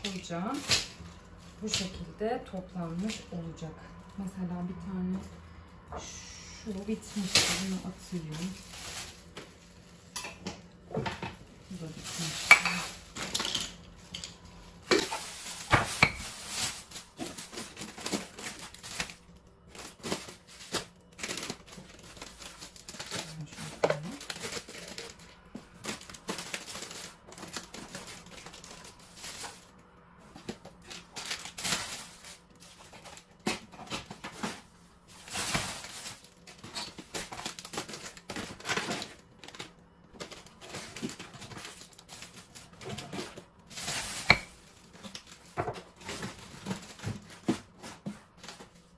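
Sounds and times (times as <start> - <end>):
plastic food packets crinkling: 0.0 - 4.4, 6.7 - 48.9.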